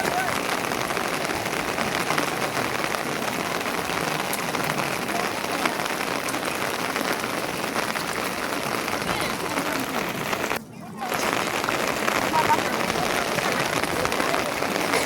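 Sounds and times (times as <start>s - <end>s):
rain falling on a surface: 0.0s - 15.0s.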